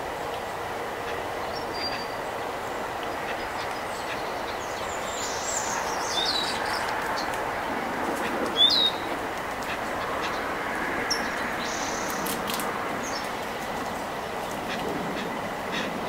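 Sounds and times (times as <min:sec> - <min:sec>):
songbirds chirping: 0:00.0 - 0:16.0
steady distant rumble: 0:00.0 - 0:16.0.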